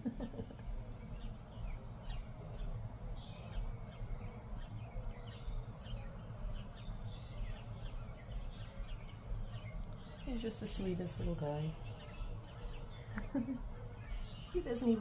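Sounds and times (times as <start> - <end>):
low steady rumble: 0.0 - 15.0
small birds chirping: 0.0 - 15.0.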